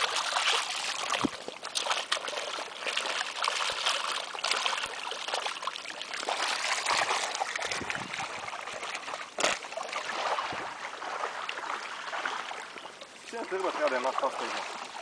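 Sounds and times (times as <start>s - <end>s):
small water splashes: 0.0s - 15.0s
water sloshing and trickling: 0.0s - 15.0s.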